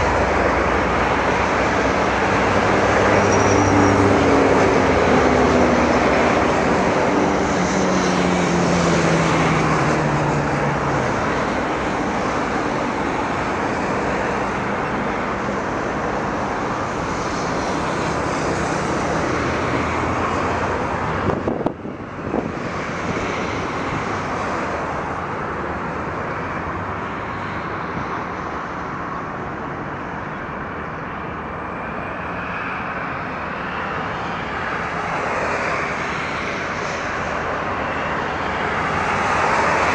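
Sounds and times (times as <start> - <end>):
jet engine whine rising: 0.0 - 39.9
jet engines roaring: 0.0 - 39.9.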